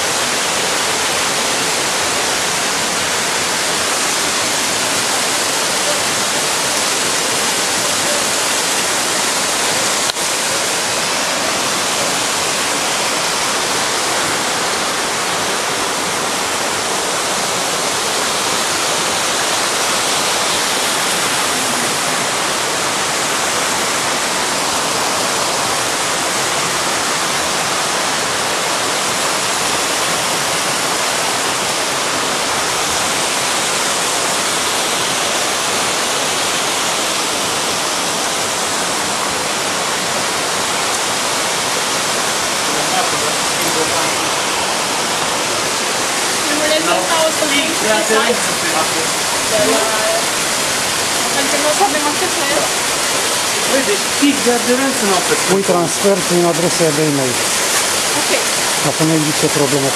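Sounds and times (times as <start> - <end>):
waterfall cascading over rocks: 0.0 - 59.9.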